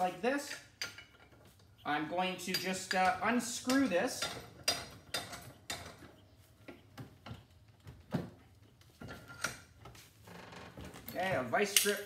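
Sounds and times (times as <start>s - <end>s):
hand tool clicking and knocking on metal: 0.0s - 10.0s, 10.9s - 12.0s.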